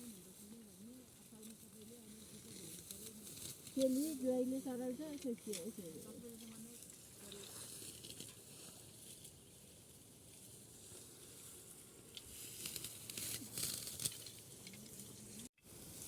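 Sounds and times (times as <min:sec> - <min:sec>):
dry stalks rustling and crackling: 0:00.0 - 0:16.0.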